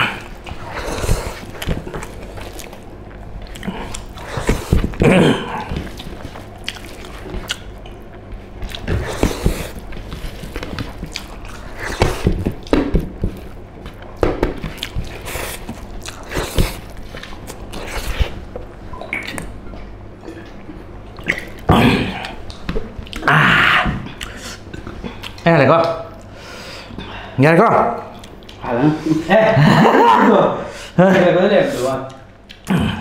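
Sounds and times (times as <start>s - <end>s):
men chewing food: 0.0s - 33.0s.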